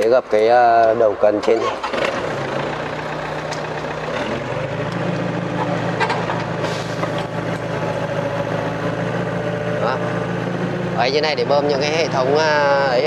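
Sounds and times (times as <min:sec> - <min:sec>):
excavator diesel engine running: 0:01.4 - 0:13.0.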